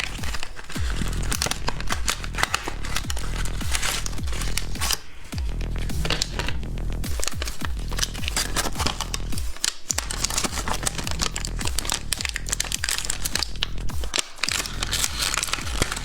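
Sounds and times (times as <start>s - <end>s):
background music with beat: 0.0s - 16.0s
plastic wrapper crinkling: 0.0s - 16.0s.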